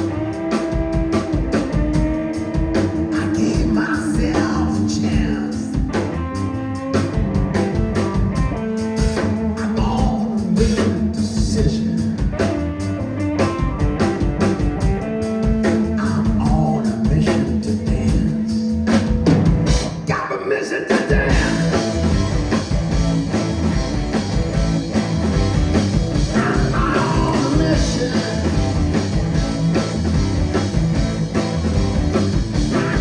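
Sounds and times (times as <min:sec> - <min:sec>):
drum kit: 0:00.0 - 0:20.2, 0:20.9 - 0:33.0
live rock band playing: 0:00.0 - 0:20.2, 0:20.9 - 0:33.0
electric guitar: 0:00.0 - 0:33.0.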